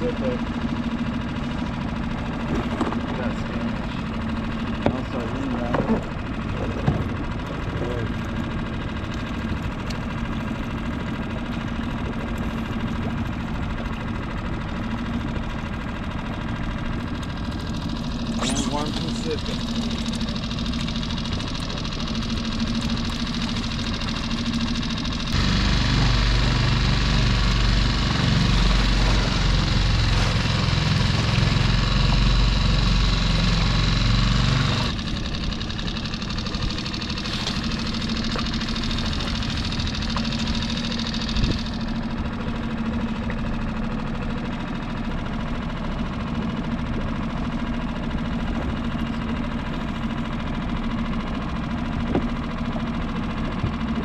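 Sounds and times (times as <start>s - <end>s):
boat motor running: 0.0s - 54.0s.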